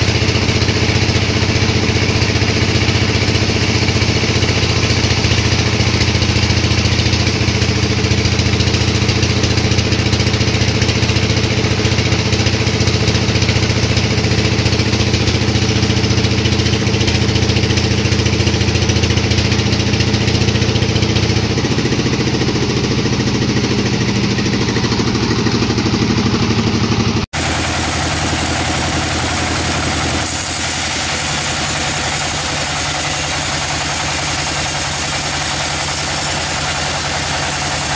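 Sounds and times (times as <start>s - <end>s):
sawmill machinery humming: 0.0s - 37.9s.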